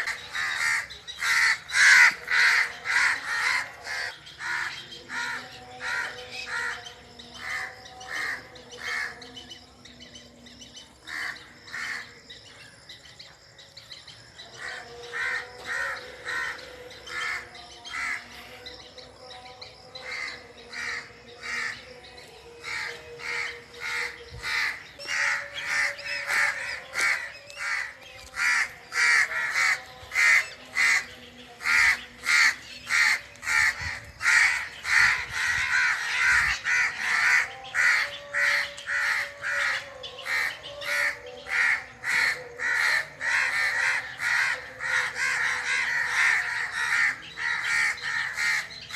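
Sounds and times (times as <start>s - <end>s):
faint steady bird calls: 0.0s - 48.9s.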